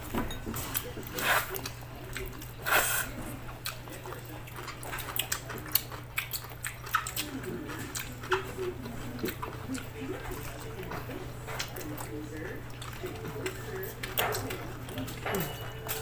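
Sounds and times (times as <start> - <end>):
people chewing and lip smacking: 0.0 - 16.0
steady low hum: 0.0 - 16.0.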